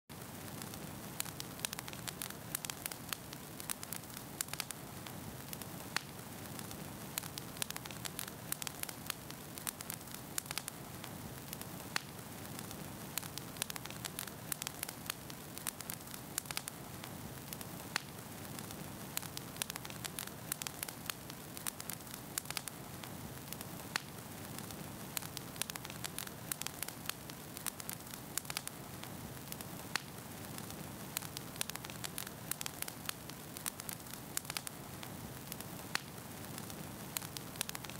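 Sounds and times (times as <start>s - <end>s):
hiss with crackles: 0.1s - 37.9s.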